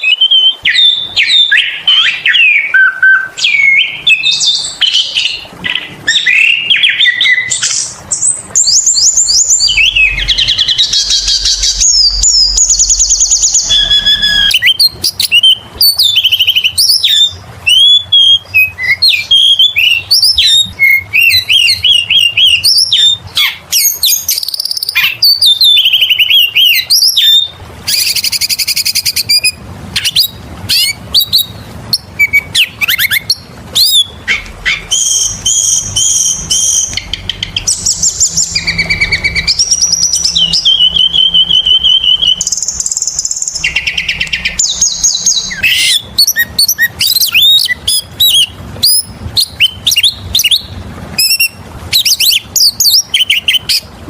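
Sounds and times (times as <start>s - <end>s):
magpie-robin singing: 0.0s - 53.9s.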